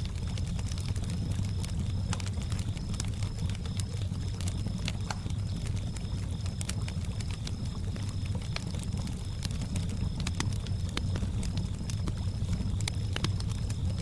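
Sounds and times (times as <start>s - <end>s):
campfire crackling and popping: 0.0s - 14.0s
crickets chirping: 0.0s - 14.0s.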